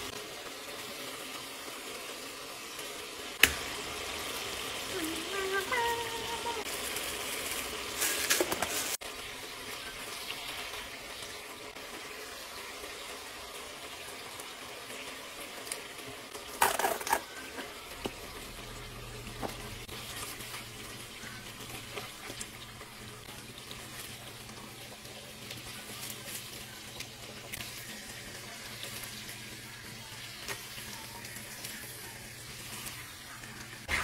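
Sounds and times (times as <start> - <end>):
food sizzling in a skillet: 0.0 - 34.0.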